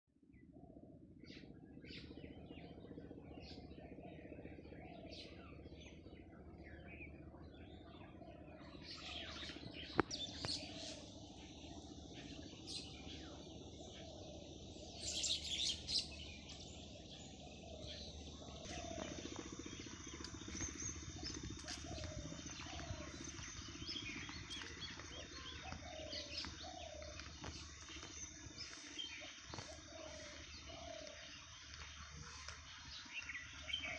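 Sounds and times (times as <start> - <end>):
low outdoor background: 0.2 - 33.9
birds chirping: 1.2 - 33.9.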